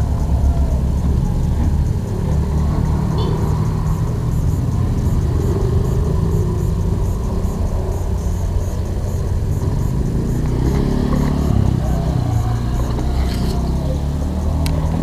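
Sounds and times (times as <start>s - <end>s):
road traffic engine noise: 0.0s - 15.0s.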